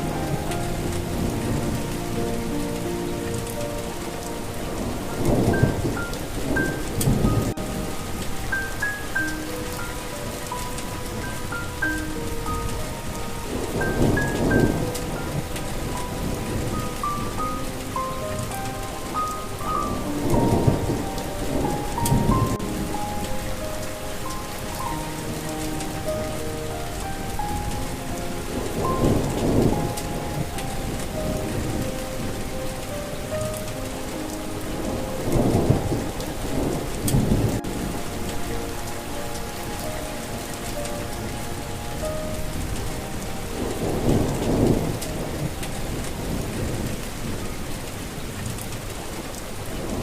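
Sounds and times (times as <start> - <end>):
low rolls of thunder: 0.0 - 50.0
soft melody of held notes: 0.0 - 50.0
steady rain falling: 0.0 - 50.0.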